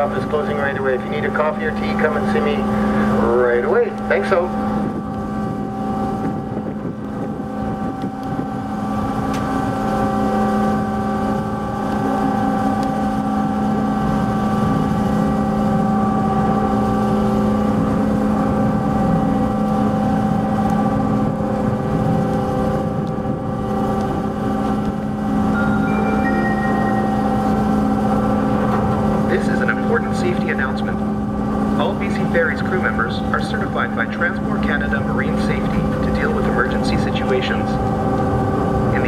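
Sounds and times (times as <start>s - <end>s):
ship engines droning: 0.0s - 39.0s.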